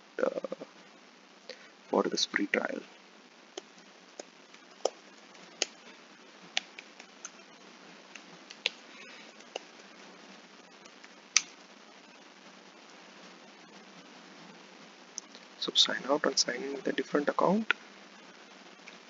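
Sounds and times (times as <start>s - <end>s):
low background hiss: 0.0s - 19.0s.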